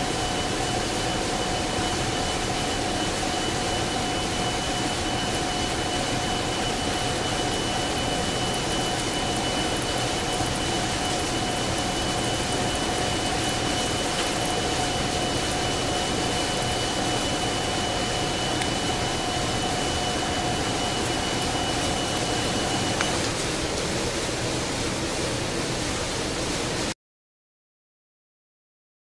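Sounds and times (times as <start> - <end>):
lathe running: 0.0 - 26.0
steady mechanical whine: 0.0 - 26.9.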